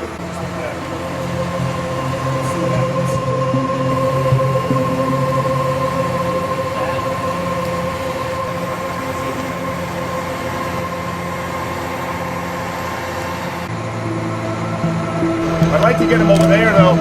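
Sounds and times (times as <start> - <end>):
construction machinery engine hum: 0.0 - 17.0
high-pitched whine: 0.0 - 17.0.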